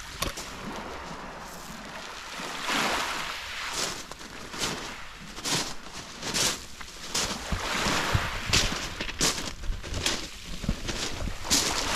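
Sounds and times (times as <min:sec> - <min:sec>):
surf washing onto beach: 0:00.0 - 0:05.6, 0:06.3 - 0:11.9.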